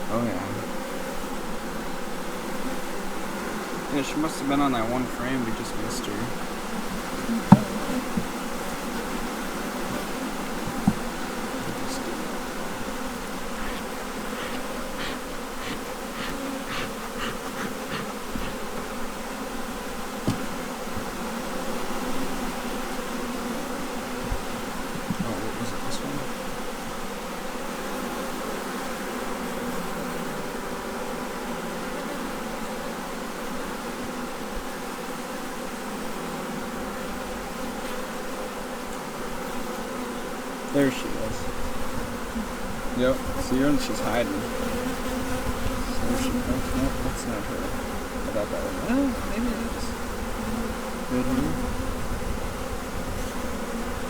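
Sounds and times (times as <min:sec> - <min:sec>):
honey bees buzzing: 0:00.0 - 0:54.0.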